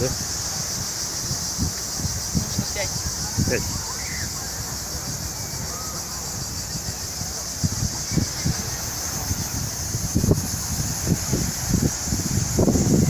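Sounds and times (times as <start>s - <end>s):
insects buzzing: 0.0s - 13.0s
wind buffeting microphone: 0.0s - 13.0s.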